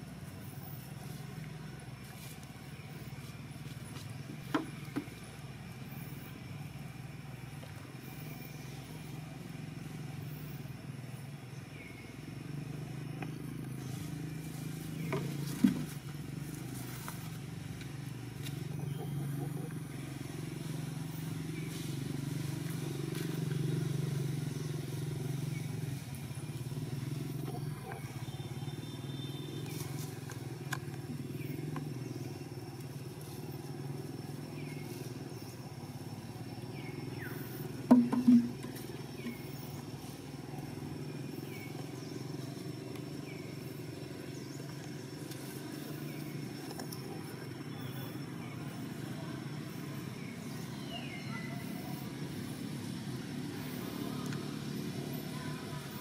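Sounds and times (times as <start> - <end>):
distant vehicle engines passing: 0.0 - 56.0.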